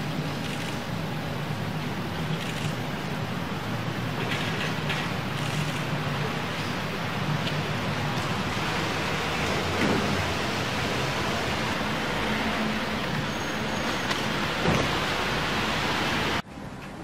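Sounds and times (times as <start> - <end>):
distant traffic noise: 0.0 - 17.0.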